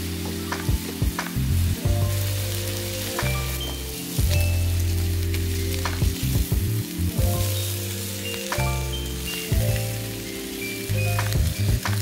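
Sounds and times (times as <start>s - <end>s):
meat sizzling on a griddle: 0.0s - 12.0s
soft background music: 0.0s - 12.0s.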